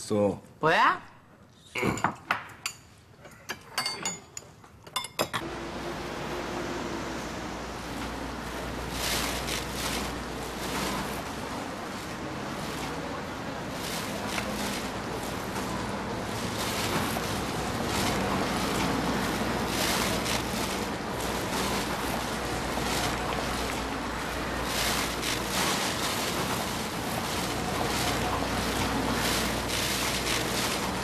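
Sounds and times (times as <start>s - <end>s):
passing vehicles hissing: 5.4s - 31.0s
traffic noise: 5.4s - 31.0s.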